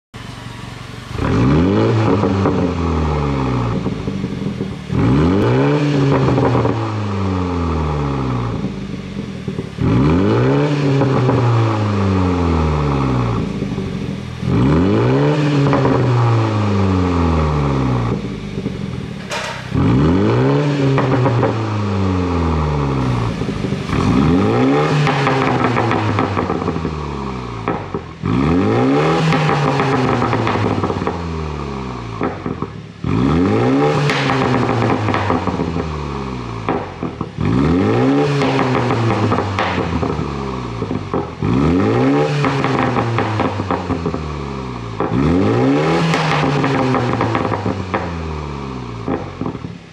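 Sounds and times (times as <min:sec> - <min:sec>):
car engine revving: 0:00.1 - 0:49.9
exhaust crackling and popping: 0:00.2 - 0:49.9.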